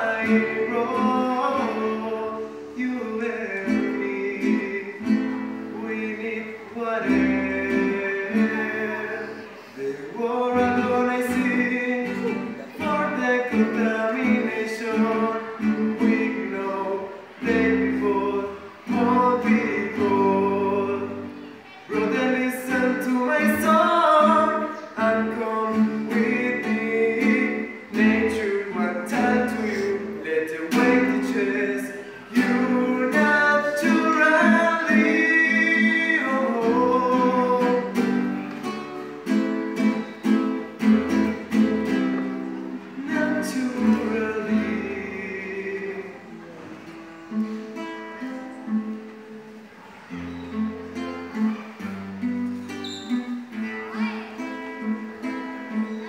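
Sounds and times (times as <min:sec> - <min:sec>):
man singing: 0:00.0 - 0:38.5, 0:39.3 - 0:46.7
acoustic guitar: 0:00.0 - 0:56.0.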